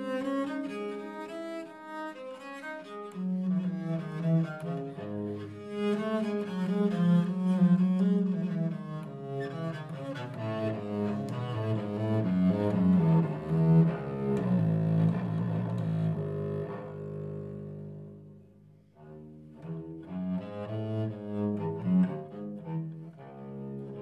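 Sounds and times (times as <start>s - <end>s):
bowed viola da gamba: 0.0s - 24.0s.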